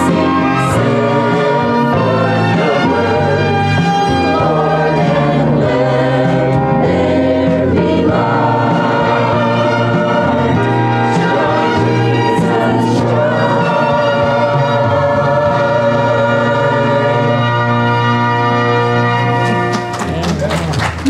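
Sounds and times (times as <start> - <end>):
choir singing: 0.0 - 19.4
instrumental accompaniment: 0.0 - 21.0.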